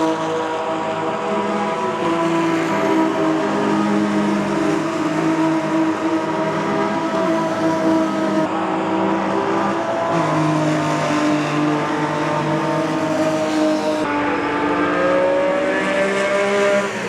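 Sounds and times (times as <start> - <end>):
racing car engines: 0.0 - 17.0.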